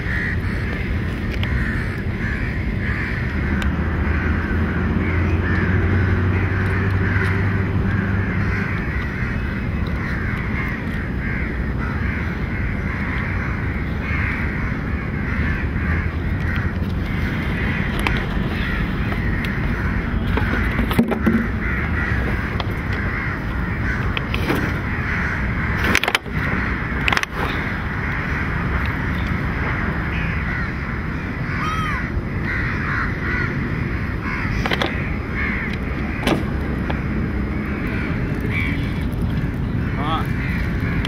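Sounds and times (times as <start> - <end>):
chorus of birds calling: 0.0 - 41.0
low steady hum: 0.0 - 41.0.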